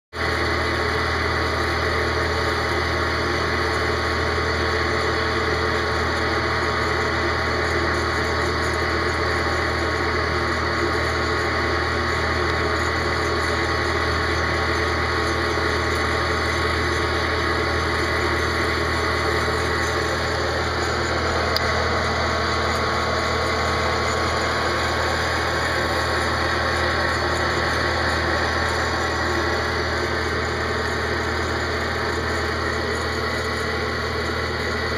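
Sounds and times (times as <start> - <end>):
popcorn popper blower whirring: 0.1 - 34.9
coffee beans churning: 0.2 - 34.9.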